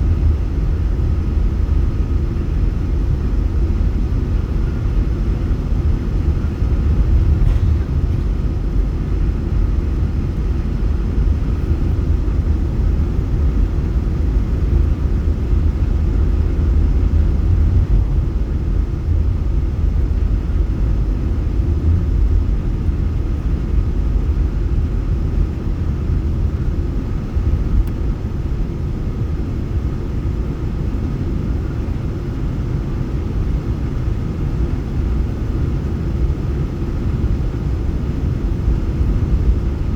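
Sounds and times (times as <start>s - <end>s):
airliner low rumble: 0.0s - 39.9s
faint steady whine: 0.0s - 39.9s.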